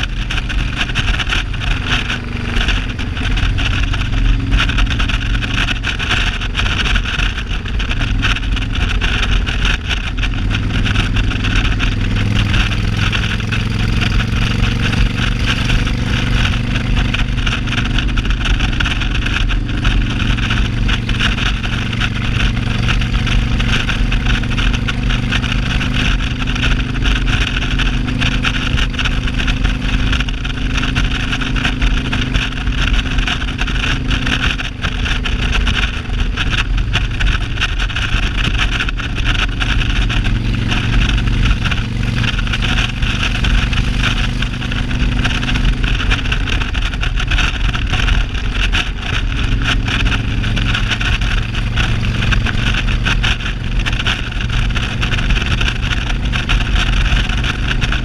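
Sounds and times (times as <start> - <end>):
motorcycle engine running: 0.0 - 58.0
wind noise rushing: 0.0 - 58.0.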